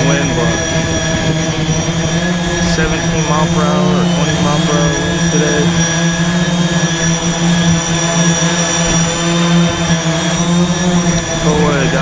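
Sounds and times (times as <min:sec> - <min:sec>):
drone motors humming and whining: 0:00.0 - 0:12.0.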